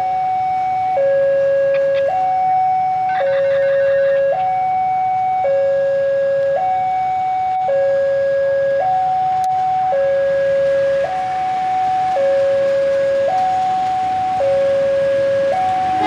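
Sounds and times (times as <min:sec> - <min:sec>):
two-tone level-crossing alarm: 0:00.0 - 0:16.0.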